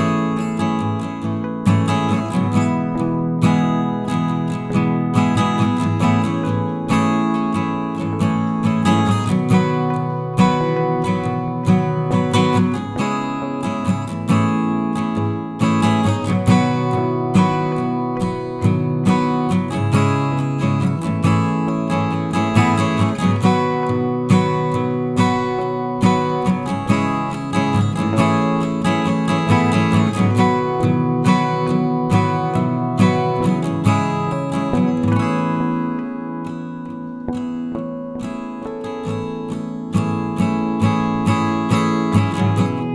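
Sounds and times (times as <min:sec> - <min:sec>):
acoustic guitar strumming: 0:00.0 - 0:42.9.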